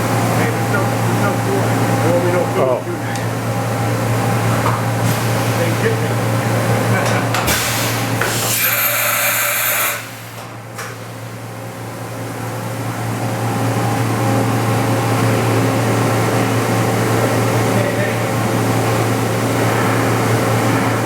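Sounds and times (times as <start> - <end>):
machining center humming: 0.0 - 21.0.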